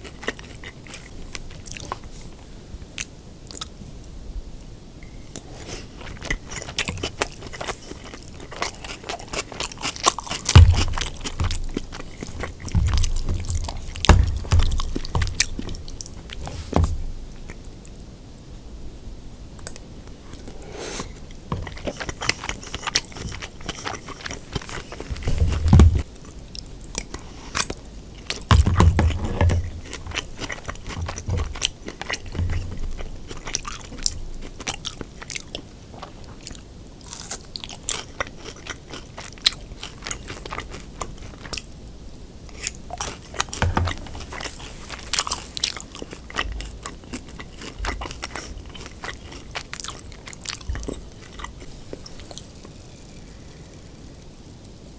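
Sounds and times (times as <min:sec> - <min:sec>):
crunchy food chewing: 0:00.0 - 0:04.1, 0:05.1 - 0:18.1, 0:19.6 - 0:41.8, 0:42.4 - 0:54.8.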